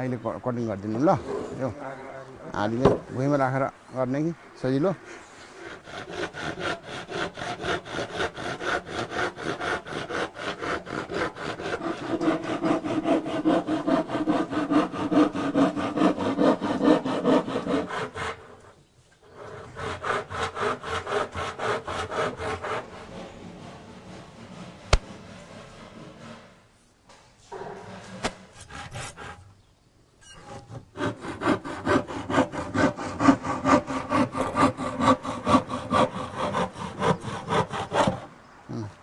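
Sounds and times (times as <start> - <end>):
hand saw cutting wood: 5.0 - 26.7, 27.9 - 29.5, 30.3 - 38.3.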